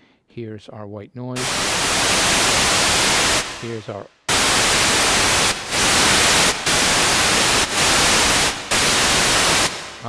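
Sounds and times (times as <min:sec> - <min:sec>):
synthesized white noise hiss: 0:01.4 - 0:10.0.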